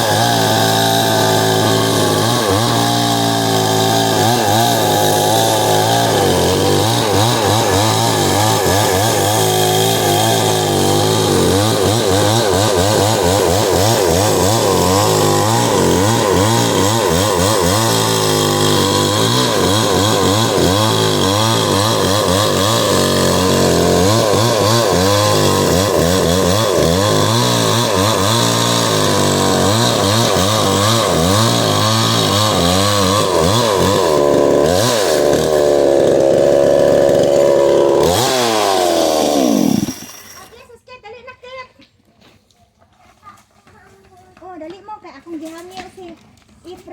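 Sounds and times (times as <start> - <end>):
chainsaw cutting wood: 0.0 - 40.6.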